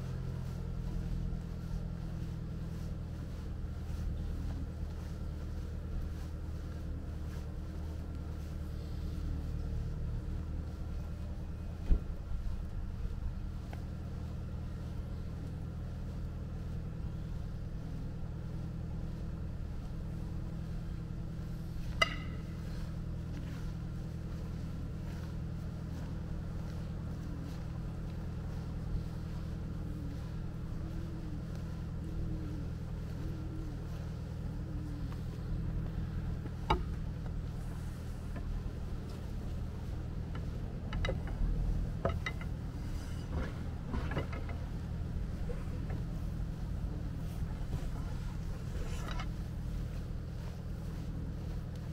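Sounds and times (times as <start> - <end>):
low mechanical drone: 0.0 - 51.9.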